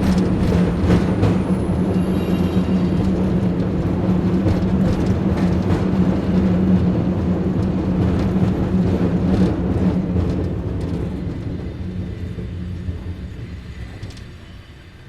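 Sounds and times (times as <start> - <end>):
cable car hum and rumble: 0.0 - 15.0.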